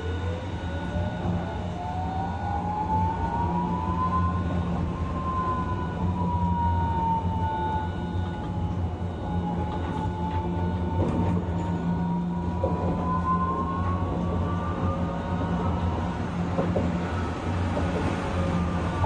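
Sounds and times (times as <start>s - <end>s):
tram inverter whining: 0.0s - 19.0s
tram running hum: 0.0s - 19.0s.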